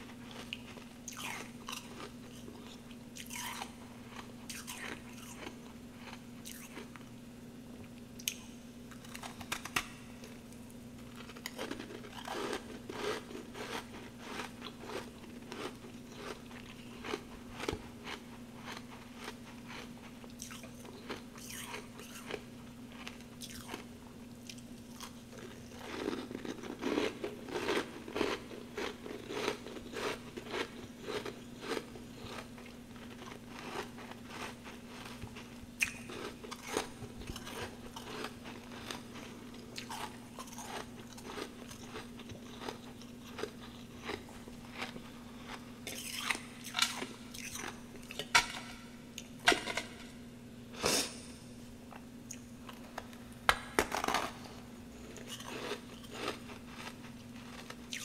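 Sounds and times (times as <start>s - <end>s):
chewing frozen frost chunks: 0.0s - 7.2s, 7.8s - 50.0s, 52.3s - 58.0s
steady low hum: 0.0s - 58.0s.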